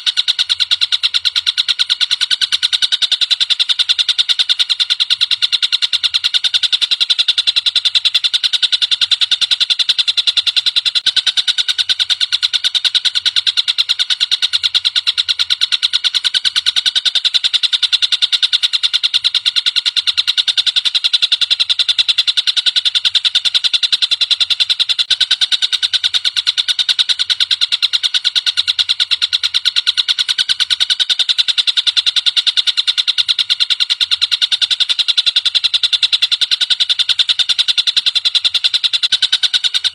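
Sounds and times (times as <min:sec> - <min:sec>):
kingfisher rattling trill: 0:00.0 - 0:39.9.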